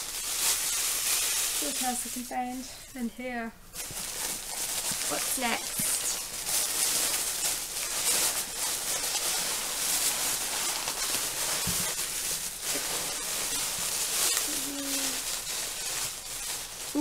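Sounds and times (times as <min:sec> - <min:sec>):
packaging rustling: 0:00.0 - 0:02.8, 0:03.7 - 0:17.0.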